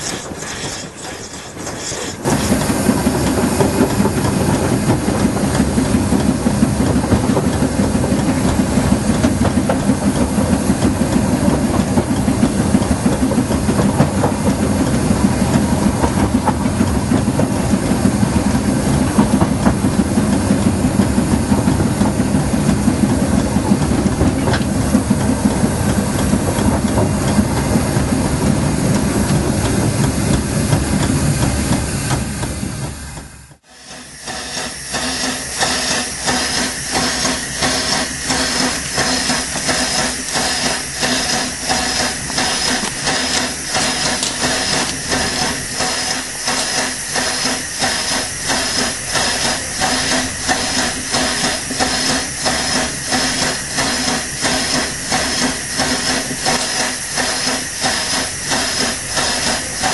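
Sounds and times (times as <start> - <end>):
steam locomotive hissing: 0.0 - 59.9
steam locomotive wheels rumbling: 0.0 - 59.9.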